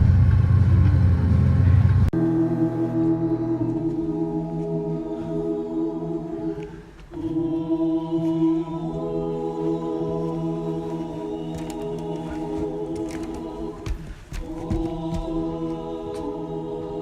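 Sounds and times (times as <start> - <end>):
choir singing held chords: 2.1 - 17.0.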